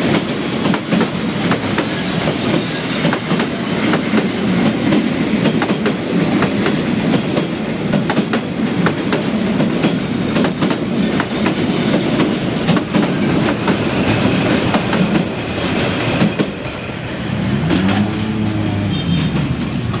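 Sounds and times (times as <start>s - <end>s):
train rumble: 0.0s - 20.0s
train wheels clickety-clack: 0.0s - 20.0s.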